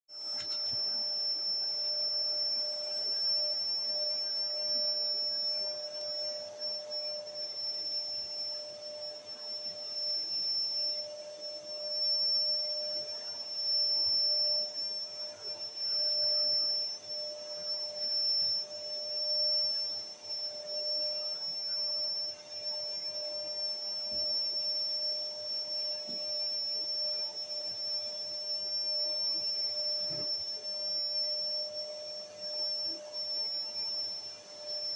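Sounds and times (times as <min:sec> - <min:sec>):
vacuum cleaner whining: 0:00.1 - 0:34.9.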